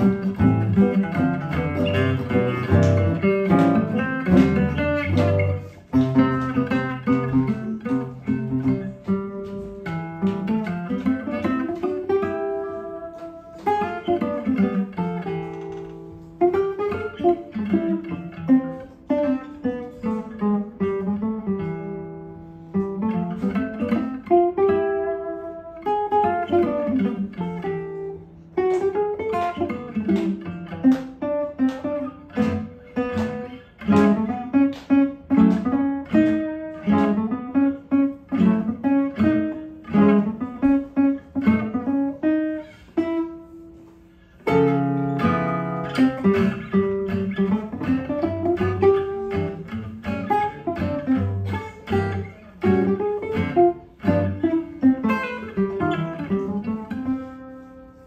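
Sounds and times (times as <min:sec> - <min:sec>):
acoustic guitar swing duet: 0:00.0 - 0:58.0.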